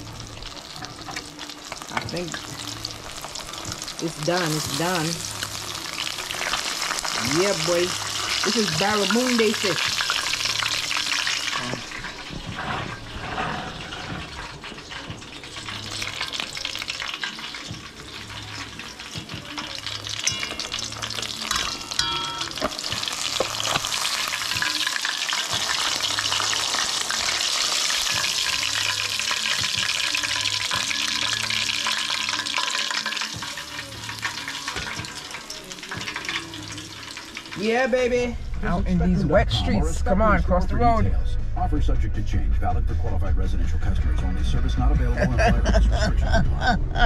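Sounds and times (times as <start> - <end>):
fish sizzling in hot oil: 0.0 - 38.3.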